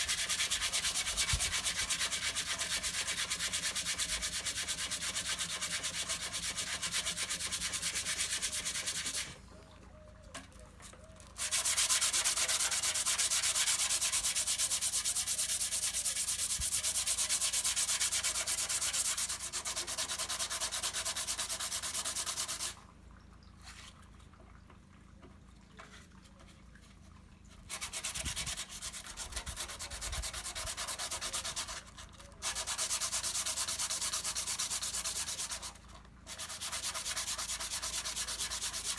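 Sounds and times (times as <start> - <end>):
sanding body filler: 0.0 - 9.4, 11.4 - 22.7, 27.7 - 38.9.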